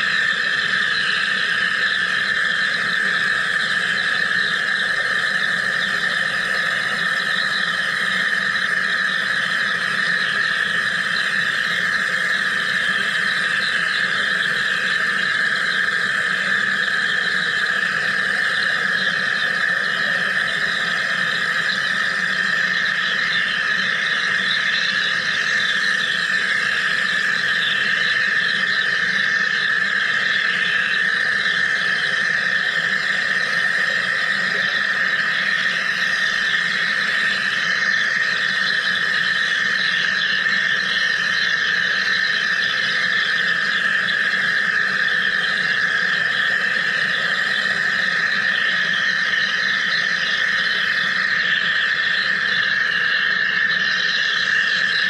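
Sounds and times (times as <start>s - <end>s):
machine high-pitched whine: 0.0s - 55.0s.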